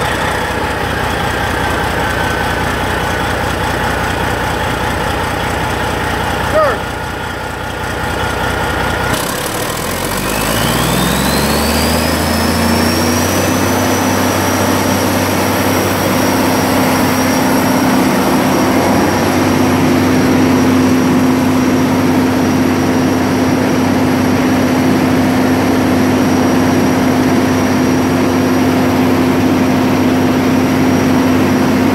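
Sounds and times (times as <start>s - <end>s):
diesel generator engine running: 0.0s - 31.9s
turbocharger whine: 0.0s - 31.9s.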